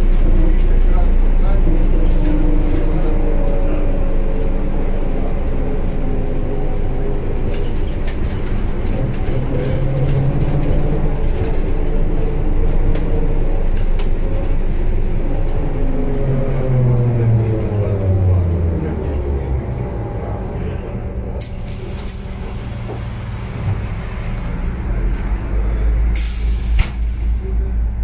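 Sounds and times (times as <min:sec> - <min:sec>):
trolleybus running gear rumble: 0:00.0 - 0:28.0.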